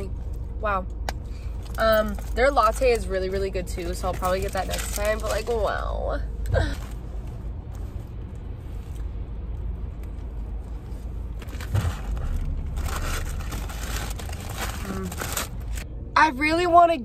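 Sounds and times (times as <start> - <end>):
low rumble inside a car: 0.0 - 17.0.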